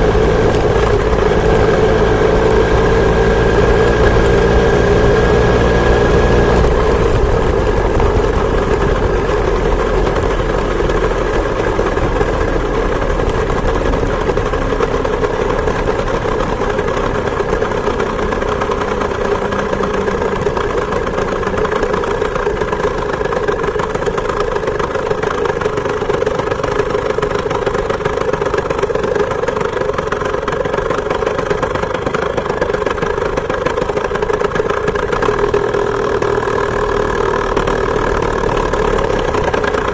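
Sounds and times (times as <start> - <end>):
two-stroke moped engine running: 0.0 - 39.9.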